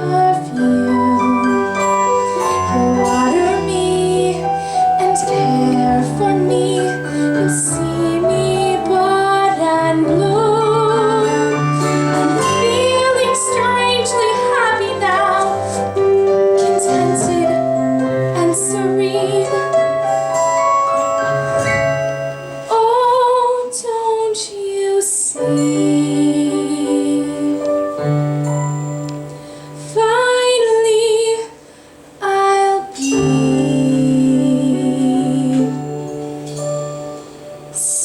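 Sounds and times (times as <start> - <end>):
woman singing a ballad: 0.0 - 20.2, 22.7 - 28.2, 29.8 - 36.5
soft instrumental accompaniment: 0.0 - 38.0.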